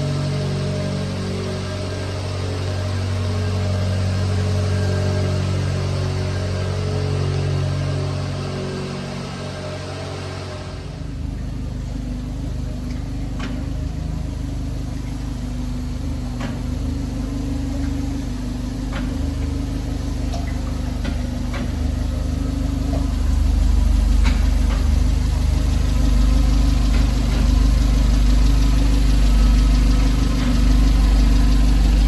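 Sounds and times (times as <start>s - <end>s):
small truck engine idling: 0.0s - 32.0s.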